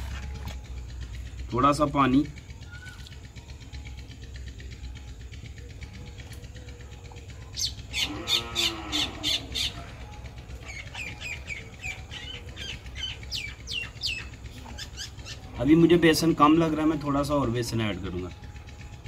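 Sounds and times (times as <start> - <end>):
birds chirping: 0.2 - 19.0.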